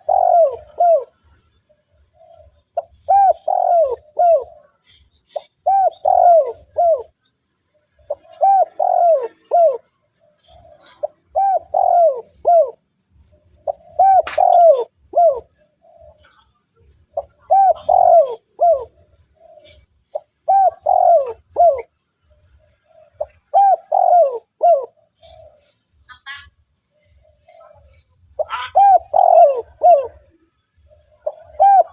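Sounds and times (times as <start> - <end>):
dove cooing: 0.0 - 25.8, 26.9 - 31.9.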